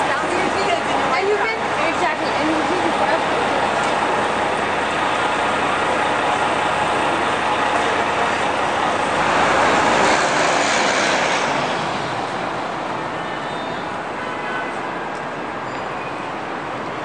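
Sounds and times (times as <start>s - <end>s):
bus passing: 0.0s - 17.0s
traffic road noise: 0.0s - 17.0s.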